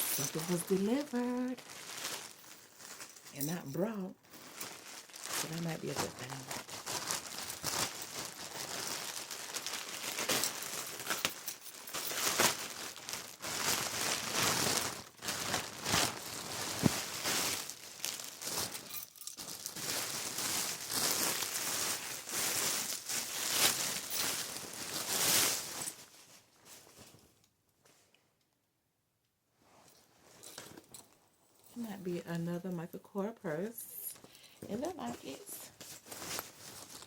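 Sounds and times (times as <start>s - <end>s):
gift wrap crinkling: 0.0s - 27.0s, 33.7s - 37.0s.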